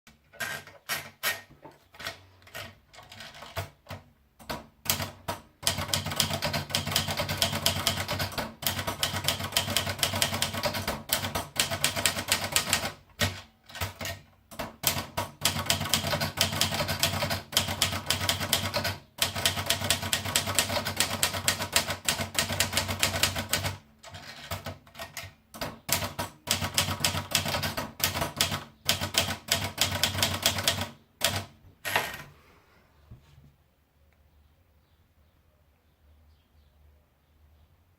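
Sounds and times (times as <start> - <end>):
manual typewriter typing: 0.1 - 32.2.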